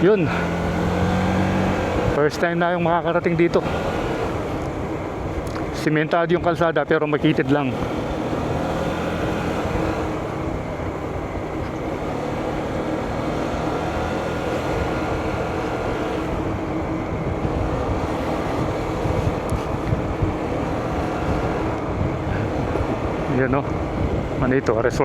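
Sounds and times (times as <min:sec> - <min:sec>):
vehicle engine running: 0:00.0 - 0:25.0
wind and road noise: 0:00.0 - 0:25.0.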